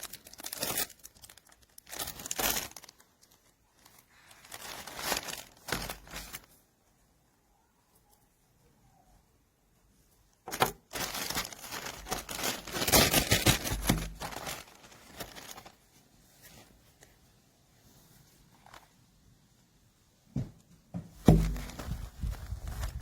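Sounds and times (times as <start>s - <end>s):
crinkling rustling handling noise: 0.0s - 7.1s, 9.8s - 19.4s, 20.5s - 23.0s.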